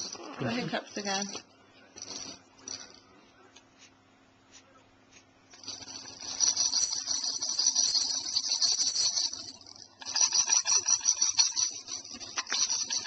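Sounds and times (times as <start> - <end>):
baby's shaker rattle: 0.0 - 3.1, 5.5 - 13.0.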